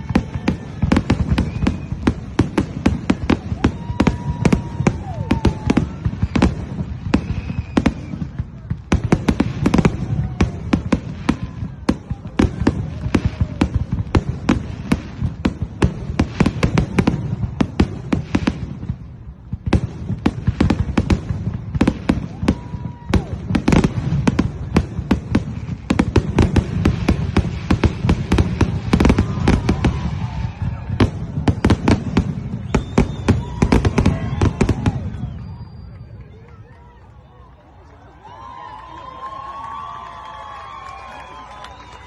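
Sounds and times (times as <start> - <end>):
fireworks popping and crackling: 0.0 - 42.0.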